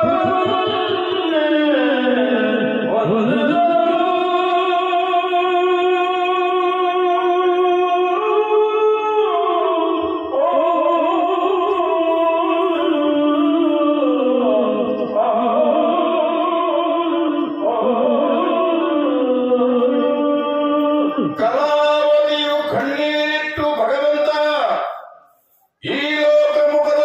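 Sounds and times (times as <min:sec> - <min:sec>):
person chanting through a microphone: 0:00.0 - 0:27.0.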